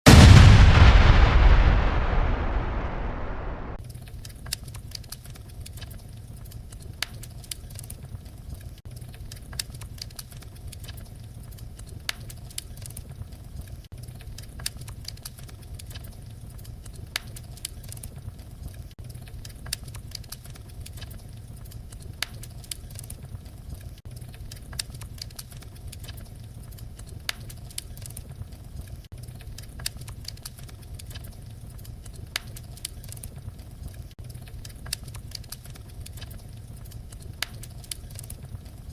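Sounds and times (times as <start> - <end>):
fire crackling with pops and snaps: 0.1 - 38.9
low rumble of flames: 0.1 - 38.9.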